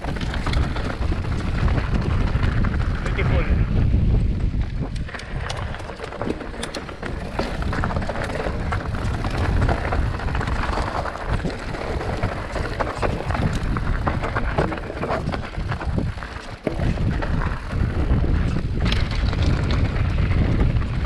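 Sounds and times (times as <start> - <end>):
bike knocks and rattles: 0.0 - 21.0
bike tyres crunching over stones: 0.0 - 21.0
wind on microphone: 0.0 - 21.0.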